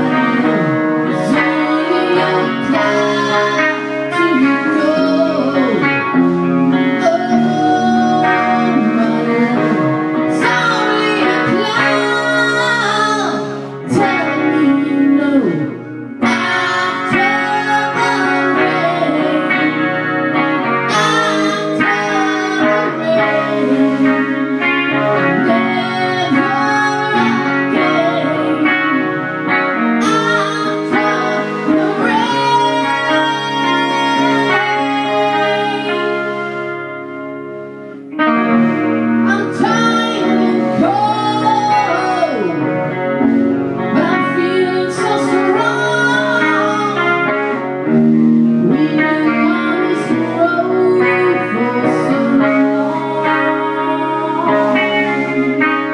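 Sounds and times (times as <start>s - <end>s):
guitar song with bending notes: 0.0s - 55.9s.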